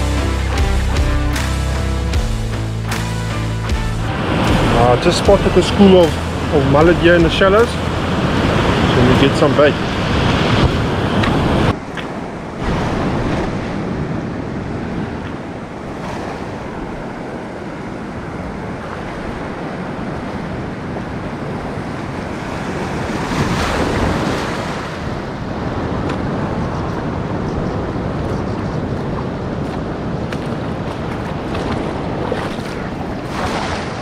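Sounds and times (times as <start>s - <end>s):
surf washing over rocks: 4.1s - 34.0s
wind buffeting microphone: 4.1s - 34.0s.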